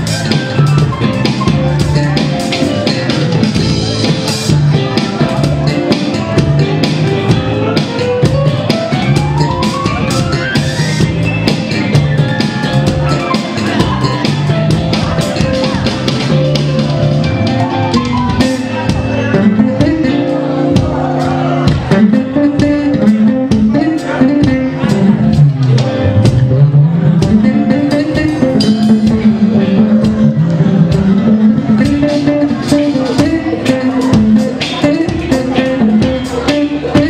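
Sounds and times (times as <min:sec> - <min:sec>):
live band playing: 0:00.0 - 0:37.0.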